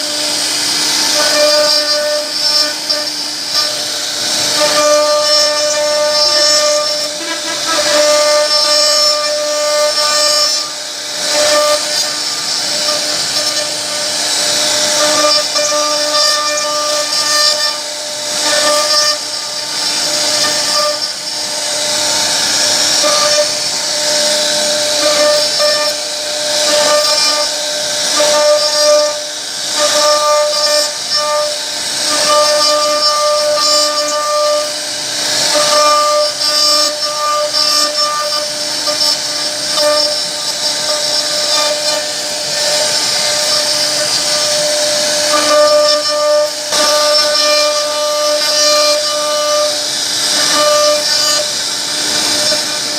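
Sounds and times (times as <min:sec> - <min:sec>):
router spindle whining: 0:00.0 - 0:52.9
bit cutting wood hiss: 0:00.2 - 0:52.9.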